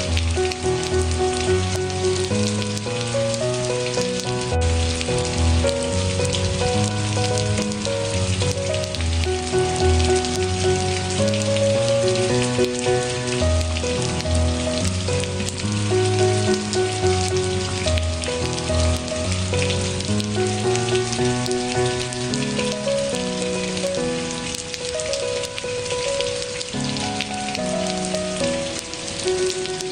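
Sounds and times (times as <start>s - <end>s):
rain falling: 0.0s - 29.9s
soft instrumental music: 0.0s - 29.9s.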